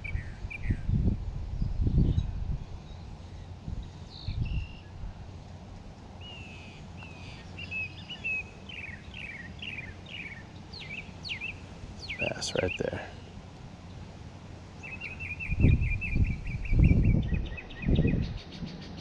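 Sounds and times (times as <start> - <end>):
wind rumble on microphone: 0.0 - 13.4, 14.8 - 19.0
small bird chirping: 1.5 - 4.9, 6.2 - 14.0, 14.8 - 19.0.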